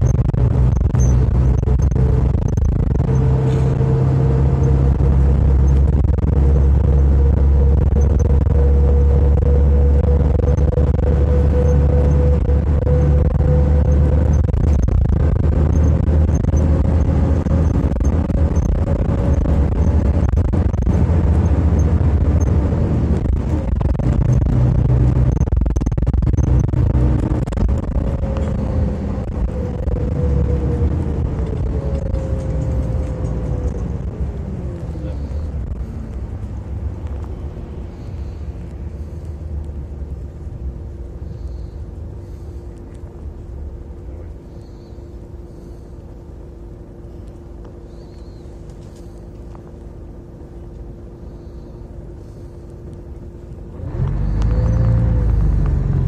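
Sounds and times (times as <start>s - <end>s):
bus engine and road rumble: 0.0s - 56.0s
bus whine: 0.0s - 56.0s.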